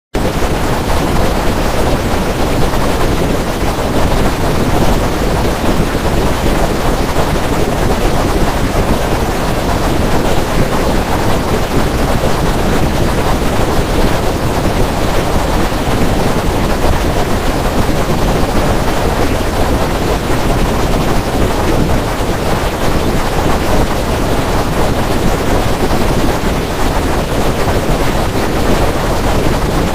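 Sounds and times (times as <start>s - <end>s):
loud steady rushing noise: 0.2s - 29.9s.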